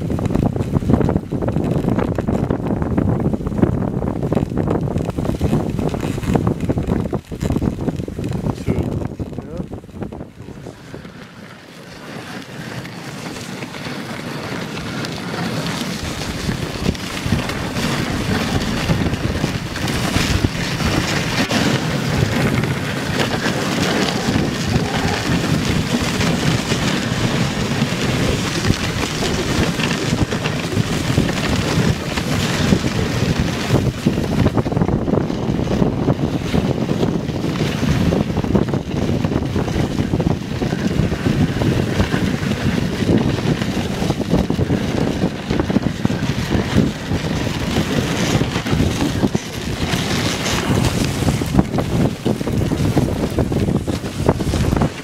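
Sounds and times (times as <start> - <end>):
sled runners scraping snow: 0.0 - 55.0
wind buffeting microphone: 0.0 - 55.0.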